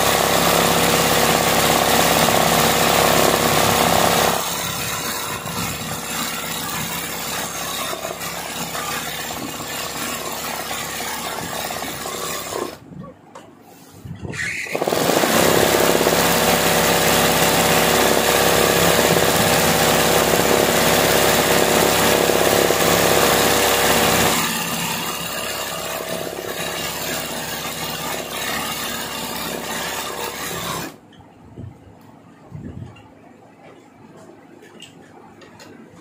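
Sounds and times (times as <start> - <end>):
sewing machine stitching: 0.0 - 12.8, 14.6 - 31.0.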